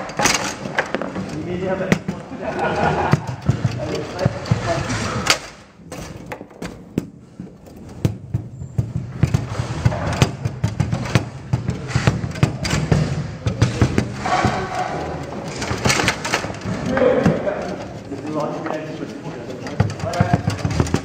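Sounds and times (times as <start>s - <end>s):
foosball clacks and knocks: 0.0s - 21.0s.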